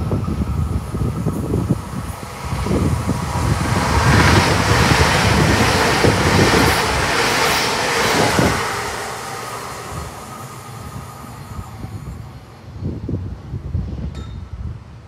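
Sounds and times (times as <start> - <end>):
train wheels rushing on rails: 0.0 - 14.7.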